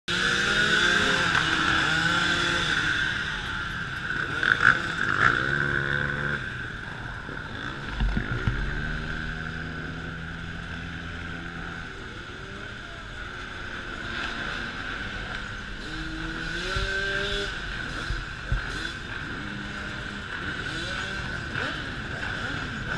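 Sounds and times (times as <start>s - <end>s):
dirt bikes revving past: 0.1s - 22.9s.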